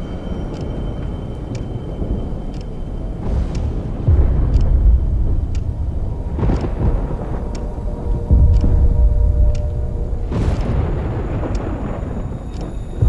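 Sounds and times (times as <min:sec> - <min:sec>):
deep storm rumbling: 0:00.0 - 0:13.0
faint ticks: 0:00.4 - 0:13.0.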